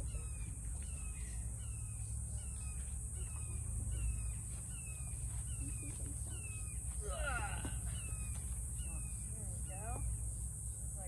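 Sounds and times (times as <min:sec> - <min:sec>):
bird calling downslurred notes: 0:00.0 - 0:10.2.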